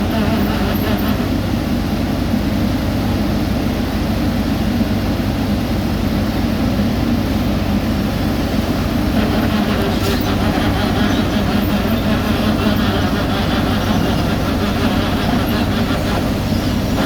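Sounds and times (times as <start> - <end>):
heavy machinery engine droning: 0.0 - 17.0.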